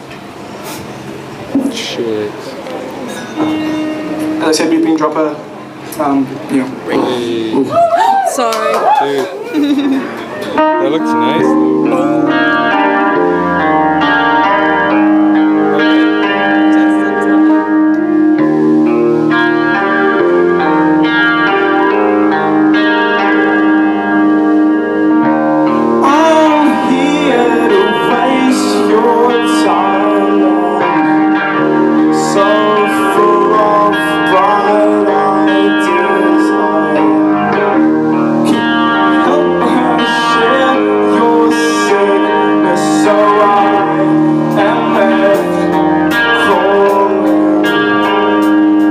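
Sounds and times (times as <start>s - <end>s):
guitar chords: 0.0s - 8.1s, 8.7s - 48.9s.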